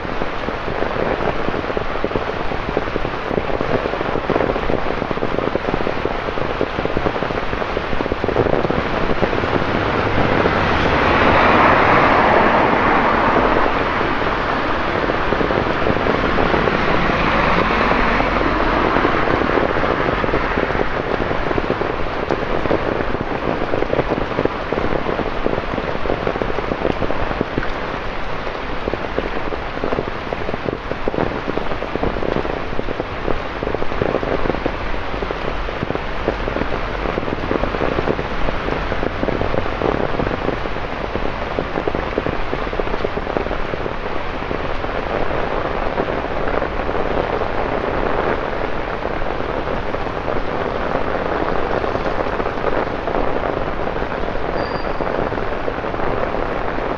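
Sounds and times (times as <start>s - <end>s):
heavy rain on pavement: 0.0s - 56.9s.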